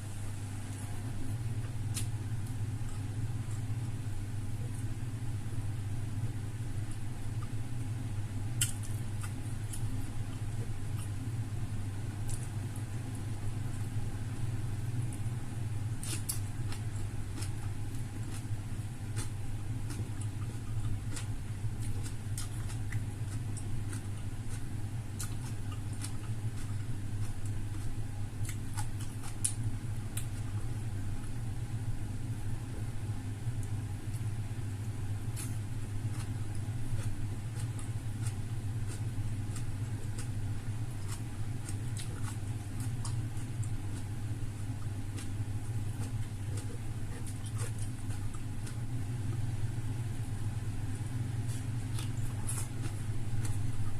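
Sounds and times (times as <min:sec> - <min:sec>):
person eating and chewing: 0:00.6 - 0:05.0, 0:08.4 - 0:31.6, 0:32.2 - 0:53.9.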